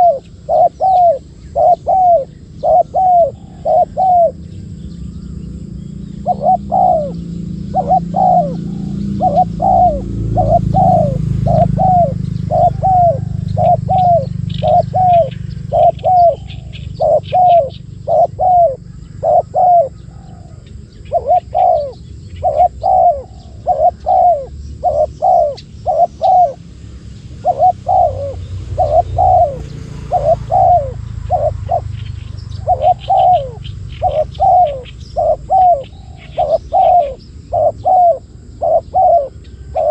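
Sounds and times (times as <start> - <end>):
steady low rumble: 0.0 - 39.7
doves cooing: 0.0 - 39.9
faint high bird chirps: 0.0 - 39.9.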